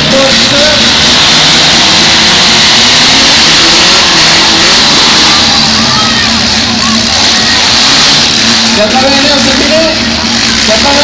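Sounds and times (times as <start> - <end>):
car engines running and revving: 0.0 - 11.0.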